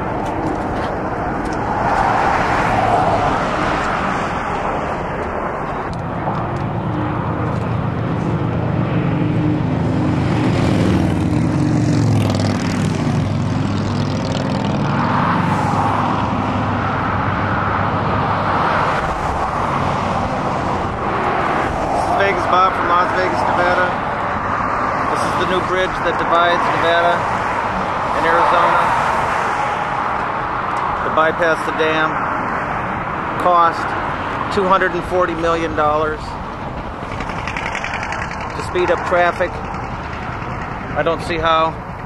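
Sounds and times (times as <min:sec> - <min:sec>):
engine drone: 0:00.0 - 0:42.0
traffic rushing: 0:00.0 - 0:42.0.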